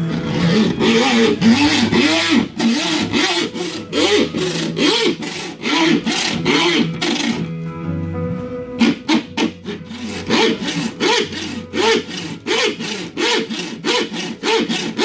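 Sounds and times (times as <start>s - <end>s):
hand saw cutting glass: 0.0s - 7.5s, 8.8s - 15.0s.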